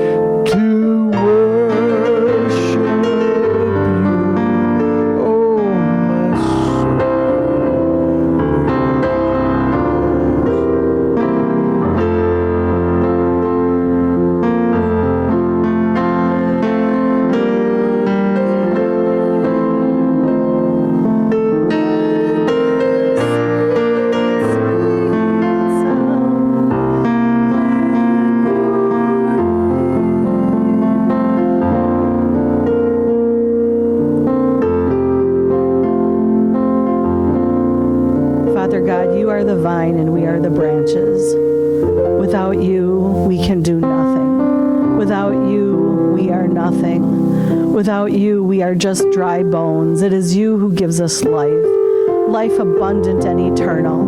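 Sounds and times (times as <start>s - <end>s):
electric piano slow chords: 0.0s - 54.0s.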